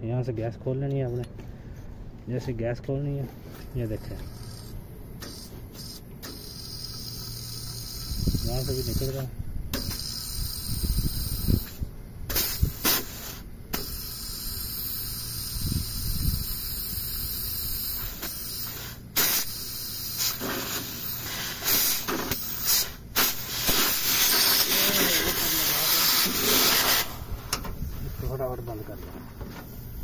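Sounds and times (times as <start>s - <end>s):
refrigerant gas hissing: 3.4s - 30.0s.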